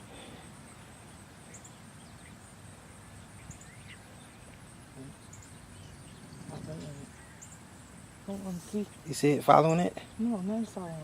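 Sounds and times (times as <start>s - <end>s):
faint bird chirps: 0.2s - 9.4s.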